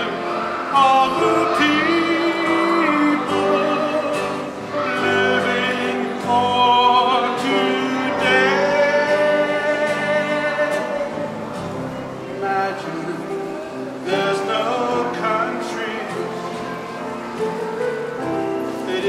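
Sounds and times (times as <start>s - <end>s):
holiday song with vibrato voices: 0.0s - 19.0s.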